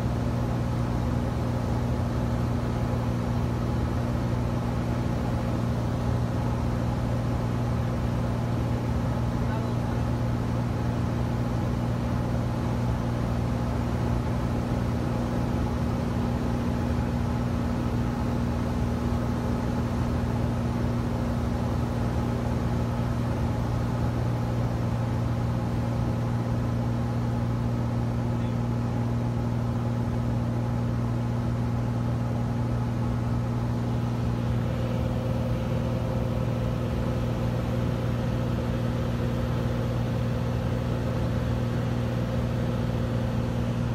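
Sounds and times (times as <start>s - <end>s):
faint higher hum: 0.0s - 43.9s
propeller plane engine hum: 0.0s - 43.9s.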